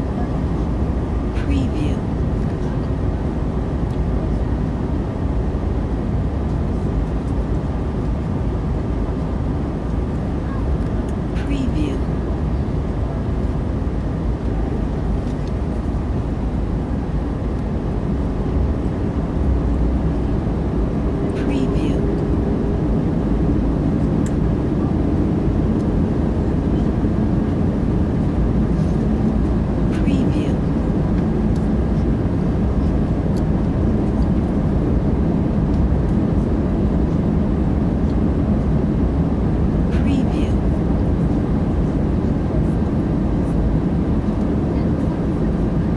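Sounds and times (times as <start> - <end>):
airliner cabin drone: 0.0 - 45.9.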